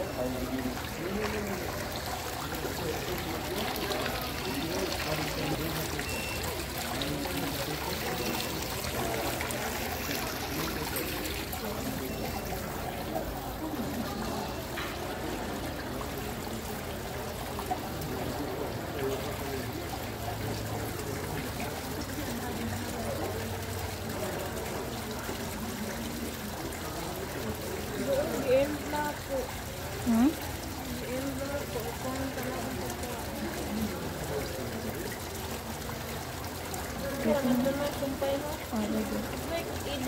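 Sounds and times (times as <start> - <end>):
murmur of voices: 0.0 - 40.0
water running down fountain: 0.0 - 40.0.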